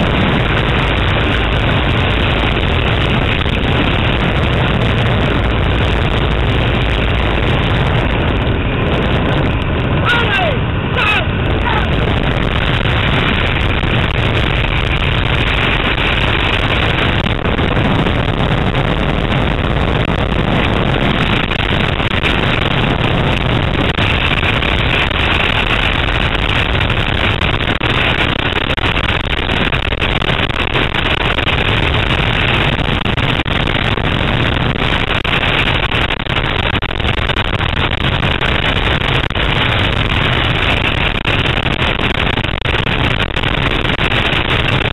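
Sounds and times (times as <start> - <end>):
freefall wind buffeting microphone: 0.0 - 44.9.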